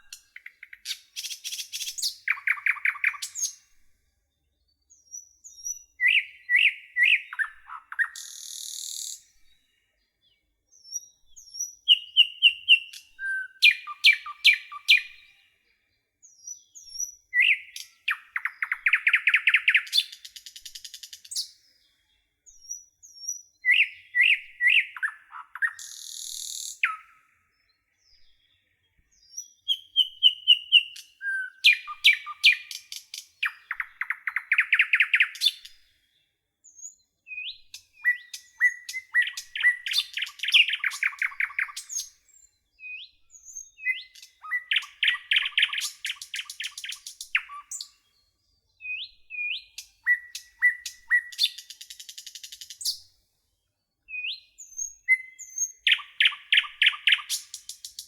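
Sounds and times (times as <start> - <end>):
songbird singing with trills: 0.0 - 58.0.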